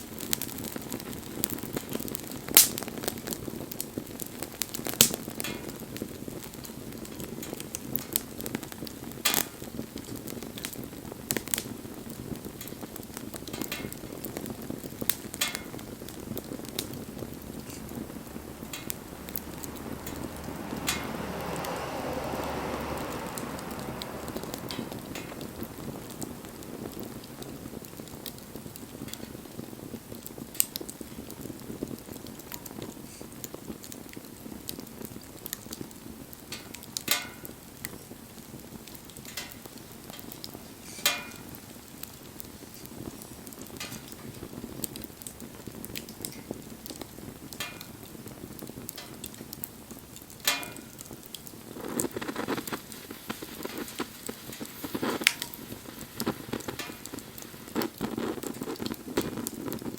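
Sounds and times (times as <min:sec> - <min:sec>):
bonfire flame rushing: 0:00.0 - 0:59.9
fire popping and crackling: 0:00.0 - 0:59.9.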